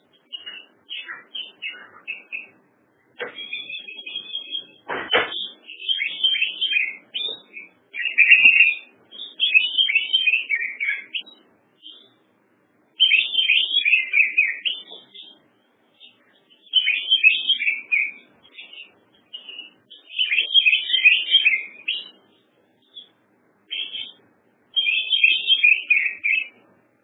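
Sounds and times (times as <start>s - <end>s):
songbird chirping: 0.0s - 27.0s.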